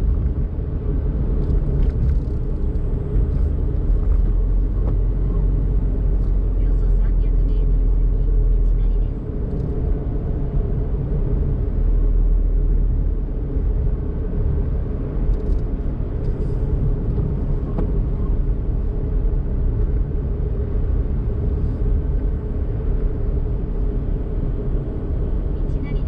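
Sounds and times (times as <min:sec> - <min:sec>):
car driving: 0:00.0 - 0:26.0.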